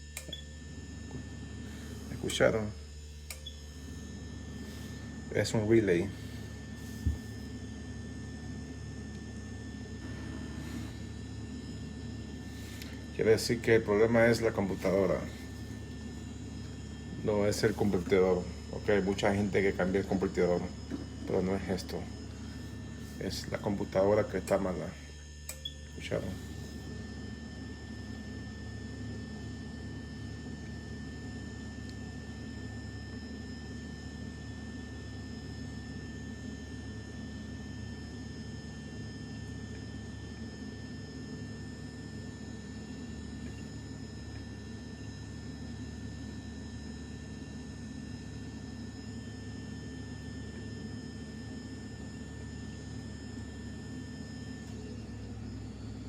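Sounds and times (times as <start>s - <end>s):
refrigerator compressor hum: 0.0s - 56.0s.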